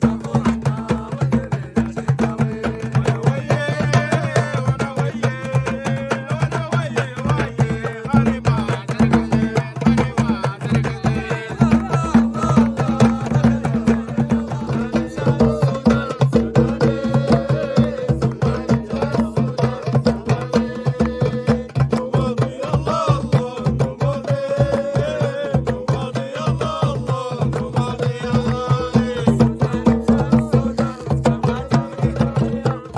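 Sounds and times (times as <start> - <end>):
fast hand-drum beat: 0.0 - 32.9
men singing folk song: 0.0 - 32.9.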